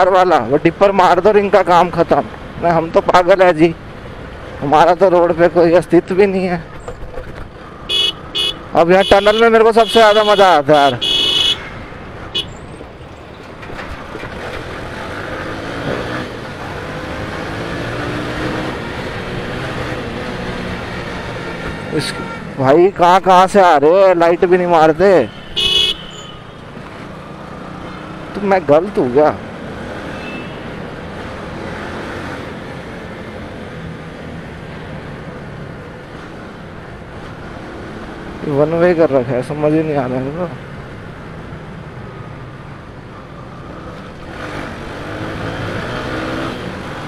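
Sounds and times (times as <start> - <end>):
wind and road rush: 0.0 - 47.0.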